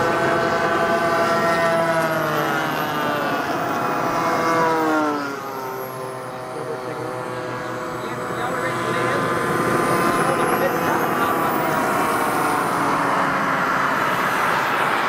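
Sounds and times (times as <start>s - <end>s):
model plane propeller engine: 0.0s - 15.0s.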